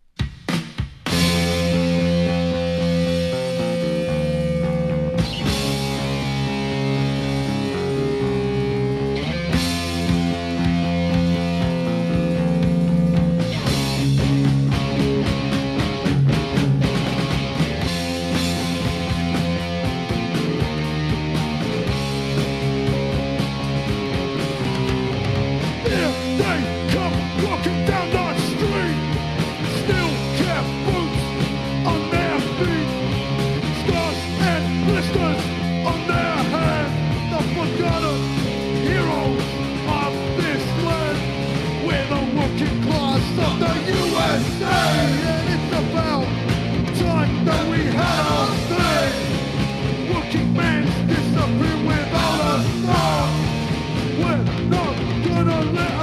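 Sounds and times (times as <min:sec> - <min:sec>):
hardcore punk band music: 0:00.1 - 0:56.0.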